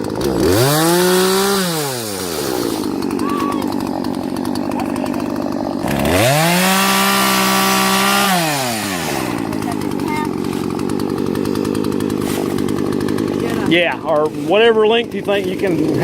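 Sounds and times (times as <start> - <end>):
chainsaw idling and revving: 0.0 - 16.0.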